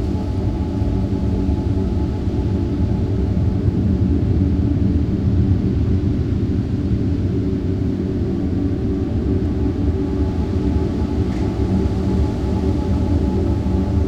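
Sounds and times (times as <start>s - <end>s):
ambient drone music: 0.0s - 14.0s.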